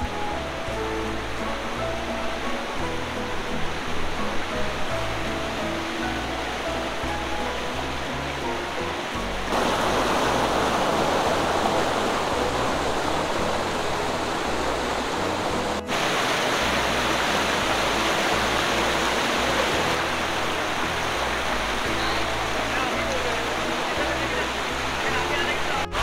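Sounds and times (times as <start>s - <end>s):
background music: 0.0s - 26.0s
stream rushing over rocks: 0.0s - 26.0s.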